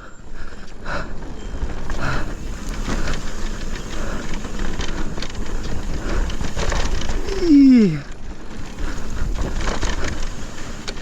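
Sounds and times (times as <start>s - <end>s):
bike rattling and knocking: 0.0s - 11.0s
tyres on dirt trail: 0.0s - 11.0s
wind rumble on microphone: 0.7s - 11.0s.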